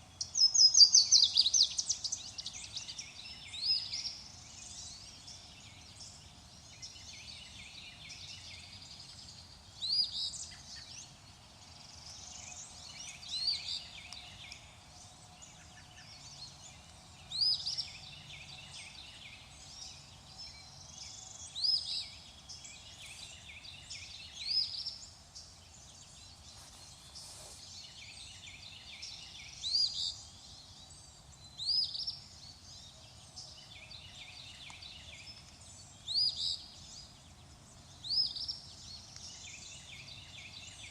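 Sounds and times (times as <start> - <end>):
birds chirping chorus: 0.0 - 40.9.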